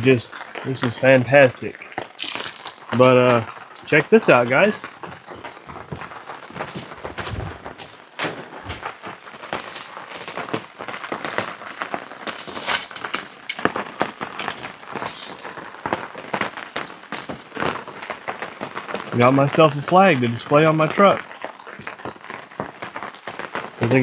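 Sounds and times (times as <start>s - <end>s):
cloth and plastic wrapping crinkling: 0.3s - 19.7s.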